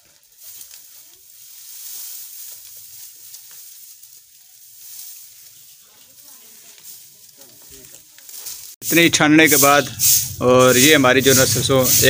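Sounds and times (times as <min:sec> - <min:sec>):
dry plants rustling and crackling: 0:00.0 - 0:12.0.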